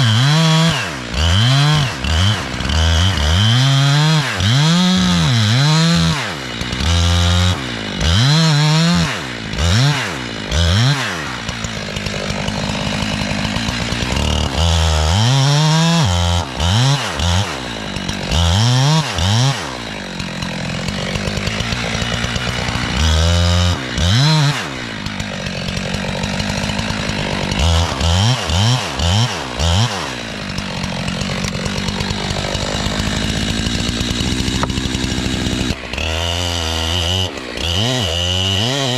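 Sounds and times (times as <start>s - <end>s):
chainsaw revving and cutting: 0.0s - 38.9s.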